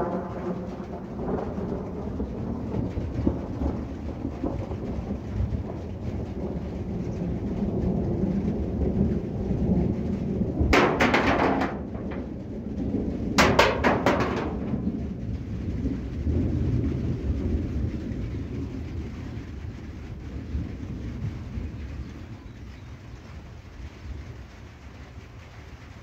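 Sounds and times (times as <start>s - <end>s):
crackling thunder peals: 0.0s - 26.0s
thunder rumbling: 0.0s - 26.0s.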